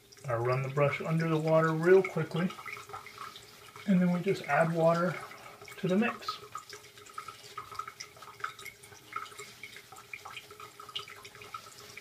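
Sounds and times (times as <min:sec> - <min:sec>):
shaving brush wet crackling: 0:00.2 - 0:12.0.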